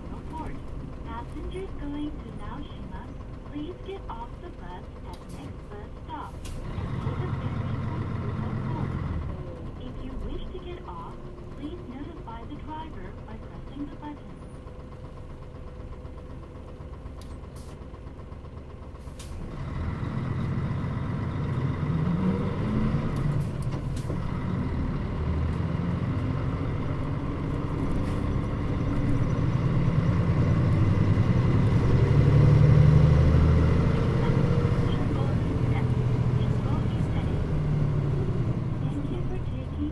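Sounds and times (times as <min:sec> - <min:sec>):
bus engine idling: 0:00.0 - 0:39.9
bus pulling away: 0:00.0 - 0:39.9.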